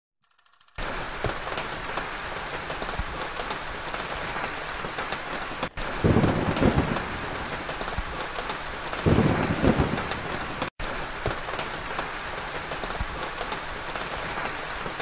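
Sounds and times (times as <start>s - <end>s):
rain falling on tiles: 0.8s - 15.0s.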